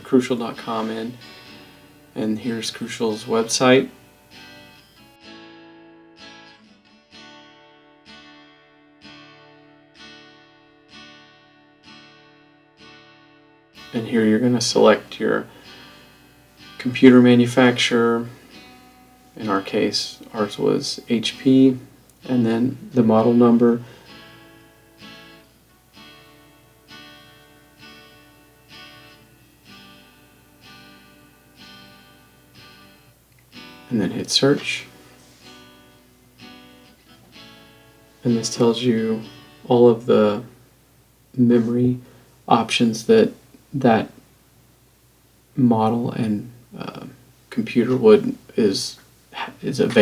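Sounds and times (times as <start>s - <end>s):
acoustic guitar strumming chords: 0.0s - 44.3s, 45.6s - 50.0s.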